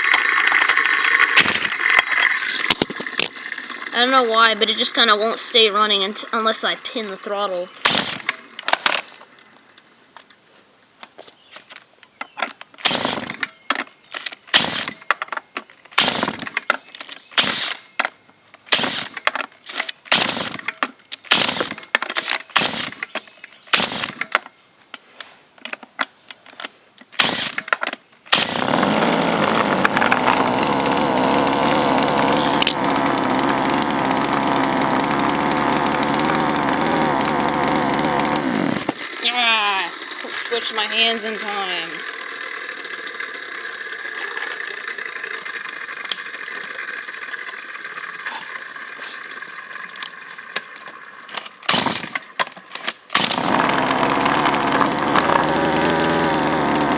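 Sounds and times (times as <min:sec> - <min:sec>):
chainsaw engine firing and running: 0:00.0 - 0:09.7, 0:12.7 - 0:13.6, 0:14.2 - 0:24.5, 0:27.1 - 0:56.9.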